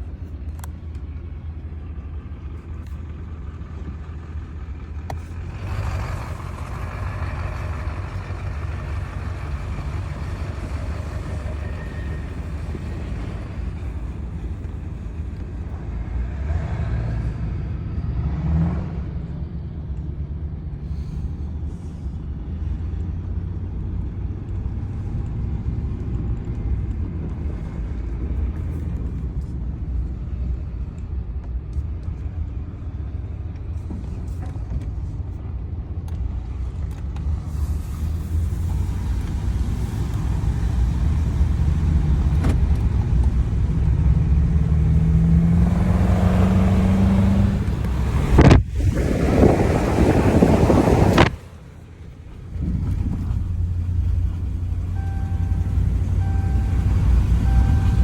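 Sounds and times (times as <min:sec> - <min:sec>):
diesel truck engine idling: 0:00.0 - 0:16.3, 0:19.4 - 0:58.0.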